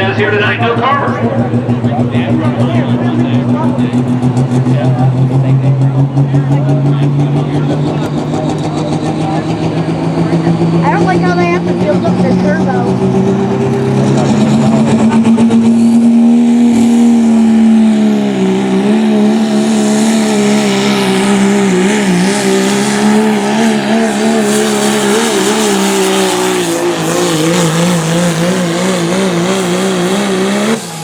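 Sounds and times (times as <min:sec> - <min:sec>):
diesel truck engine at full throttle: 0:00.0 - 0:31.0.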